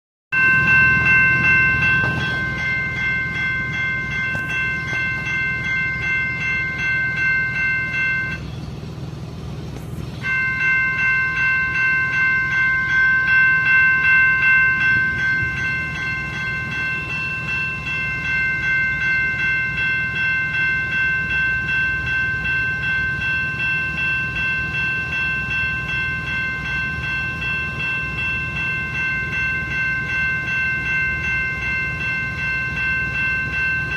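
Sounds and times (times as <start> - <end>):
passing train rumble: 0.3 - 33.9.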